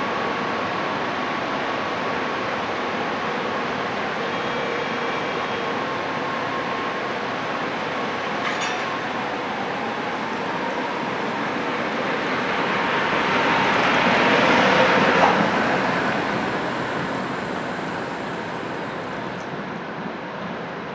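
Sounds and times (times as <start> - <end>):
tram passing on rails: 0.0 - 20.9
tram rolling in: 0.0 - 20.9.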